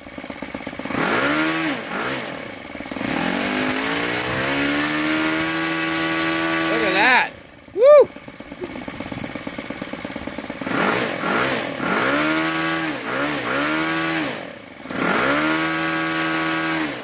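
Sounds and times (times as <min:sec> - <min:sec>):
model airplane engine revving: 0:00.0 - 0:17.0.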